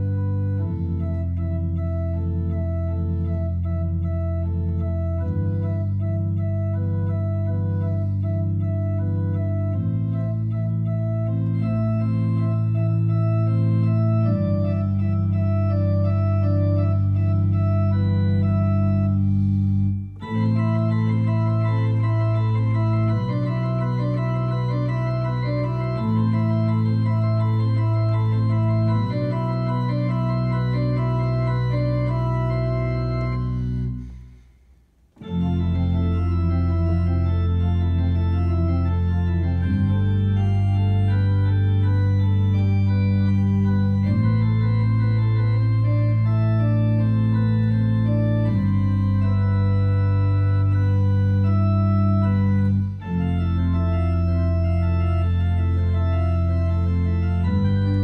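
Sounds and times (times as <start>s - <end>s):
organ playing chords: 0.0s - 58.0s.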